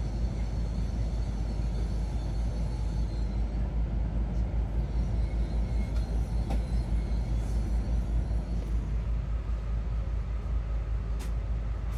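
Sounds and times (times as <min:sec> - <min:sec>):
train carriage rumble: 0:00.0 - 0:11.9.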